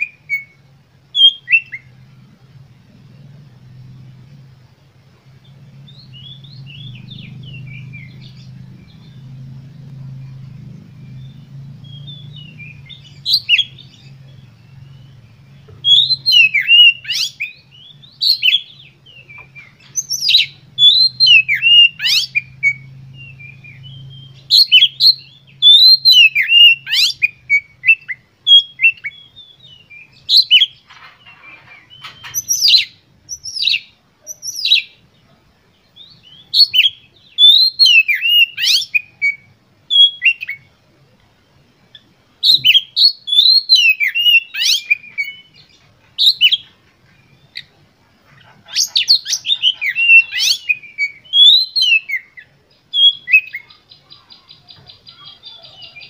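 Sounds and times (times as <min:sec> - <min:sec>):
bird singing whistled notes: 0:00.0 - 0:02.4, 0:05.4 - 0:35.0, 0:35.8 - 0:40.8, 0:41.4 - 0:47.8, 0:48.7 - 0:56.0.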